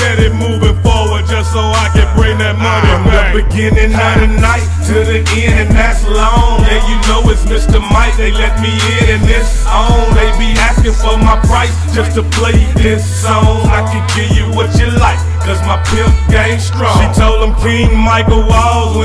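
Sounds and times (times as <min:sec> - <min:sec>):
hip hop music: 0:00.0 - 0:19.0.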